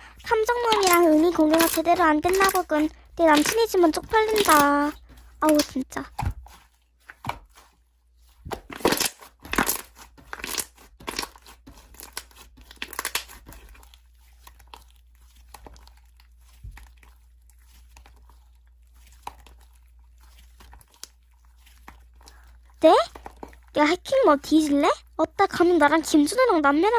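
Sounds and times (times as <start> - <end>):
slime crackling and crunching: 0.1 - 26.9.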